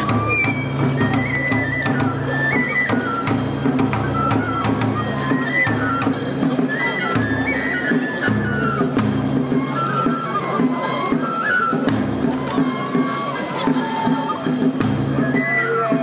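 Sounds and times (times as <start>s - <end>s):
bamboo flute melody: 0.0s - 16.0s
steady drum beats: 0.0s - 16.0s.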